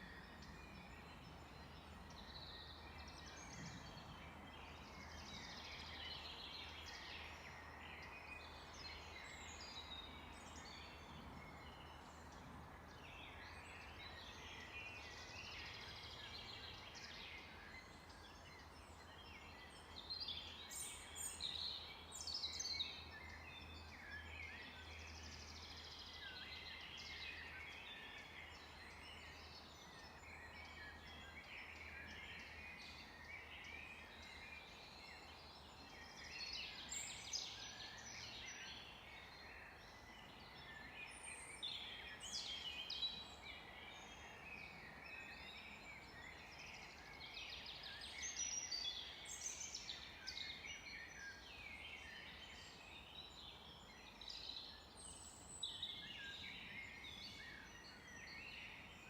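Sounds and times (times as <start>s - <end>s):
chorus of songbirds singing: 0.0s - 59.0s.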